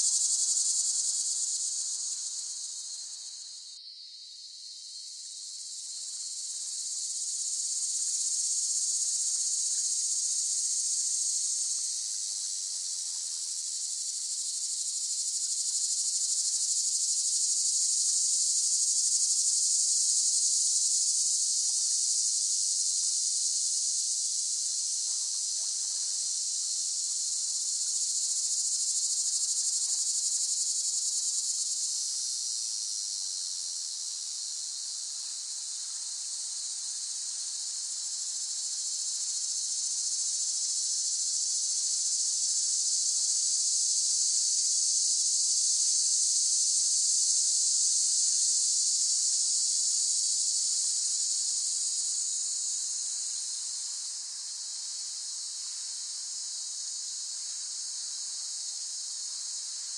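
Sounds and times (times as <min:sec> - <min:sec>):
cicadas buzzing: 0:00.0 - 0:12.2, 0:13.5 - 0:24.1, 0:24.7 - 0:59.9.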